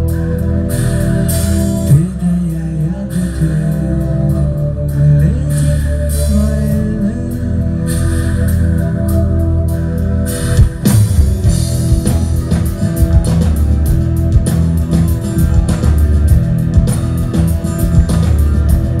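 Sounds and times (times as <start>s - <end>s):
bass guitar: 0.0s - 19.0s
drums at a steady beat: 0.0s - 19.0s
electric guitars: 0.0s - 19.0s.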